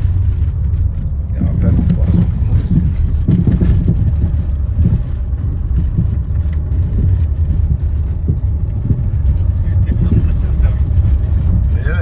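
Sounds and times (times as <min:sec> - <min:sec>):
road and engine rumble: 0:00.0 - 0:12.0
small knocks and rattles: 0:00.2 - 0:11.8.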